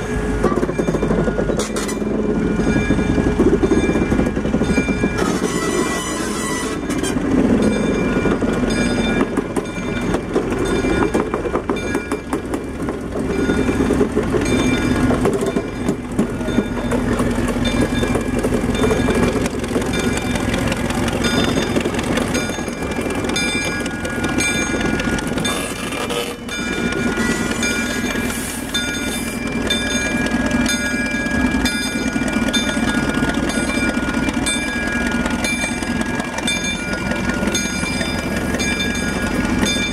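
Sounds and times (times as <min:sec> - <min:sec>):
locomotive engine running: 0:00.0 - 0:39.9
train wheels rolling on rails: 0:00.0 - 0:39.9.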